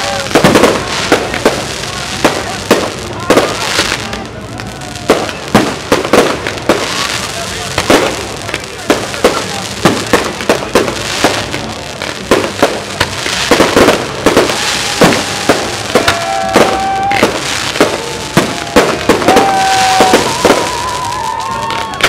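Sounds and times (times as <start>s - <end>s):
firework bangs: 0.0s - 22.0s
fireworks crackling: 0.0s - 22.0s.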